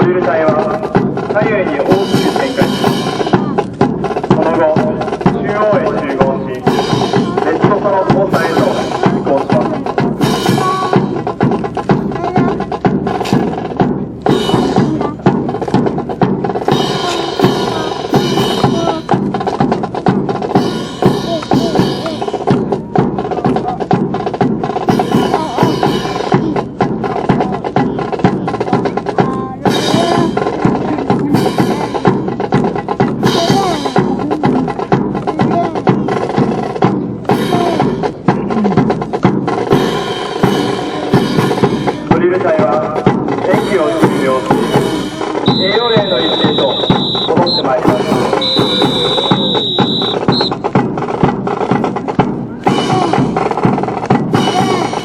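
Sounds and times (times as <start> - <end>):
brass band playing a march: 0.0 - 55.0
snare and bass drum beat: 0.0 - 55.0.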